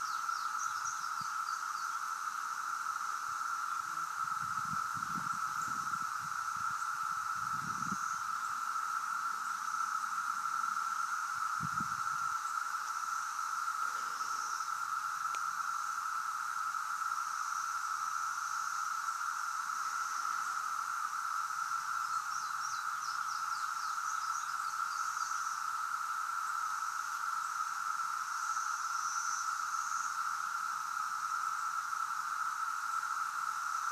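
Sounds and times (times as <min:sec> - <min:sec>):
cicadas droning buzz: 0:00.0 - 0:33.9.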